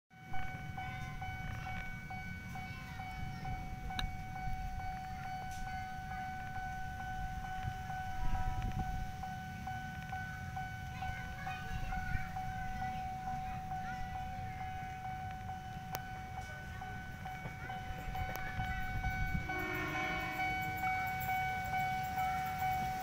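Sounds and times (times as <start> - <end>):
wind: 0.1 - 23.0
level crossing bell ringing: 0.2 - 23.0
traffic rumble: 0.2 - 23.0.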